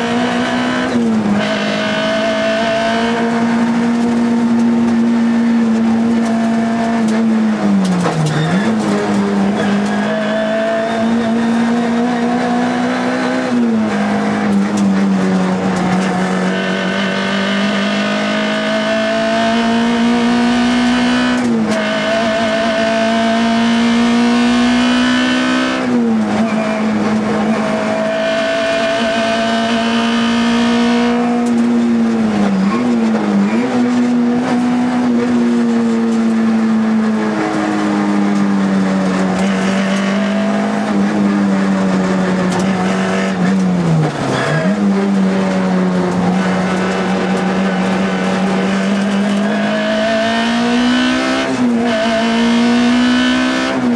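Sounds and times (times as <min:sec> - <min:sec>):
rally car engine at high revs: 0:00.0 - 0:53.9.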